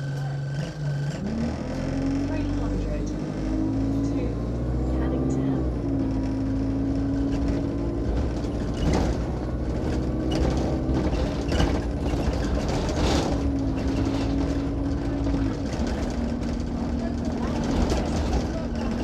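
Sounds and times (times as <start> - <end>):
bus engine running: 0.0 - 19.0
rattling behind seat: 0.0 - 19.0.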